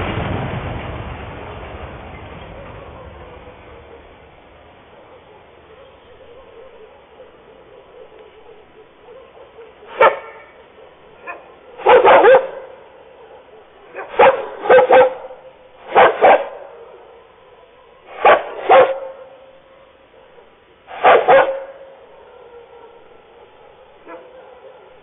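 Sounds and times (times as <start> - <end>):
dog barking: 2.5 - 4.2, 4.8 - 25.0.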